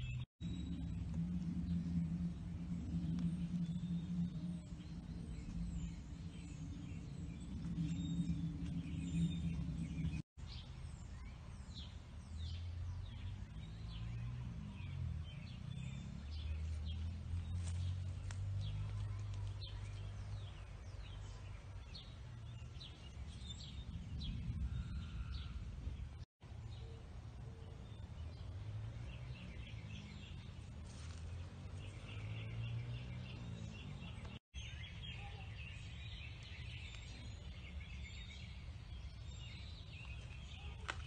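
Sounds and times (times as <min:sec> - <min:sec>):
low rumble: 0:00.0 - 0:34.4
songbirds chirping: 0:00.0 - 0:41.0.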